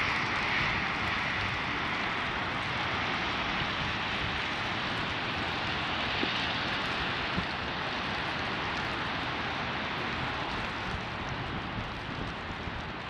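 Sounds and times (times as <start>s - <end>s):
traffic hiss on wet streets: 0.0s - 13.0s.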